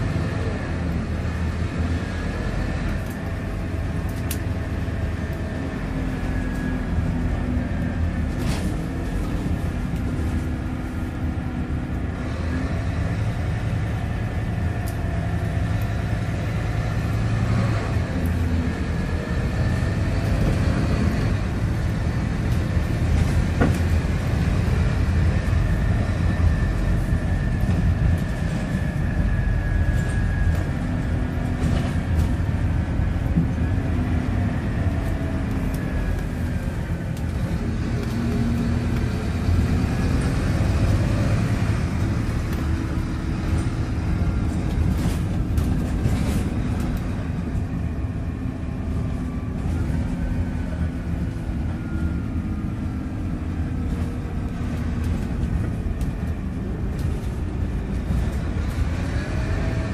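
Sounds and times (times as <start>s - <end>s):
bus engine rumble: 0.0s - 59.9s
drivetrain whine: 0.0s - 59.9s.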